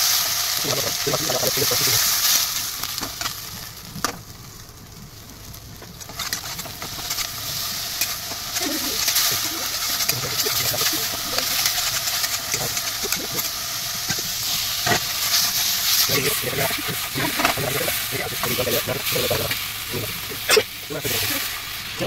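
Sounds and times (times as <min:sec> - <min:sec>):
gravy sizzling in a wok: 0:00.0 - 0:22.0.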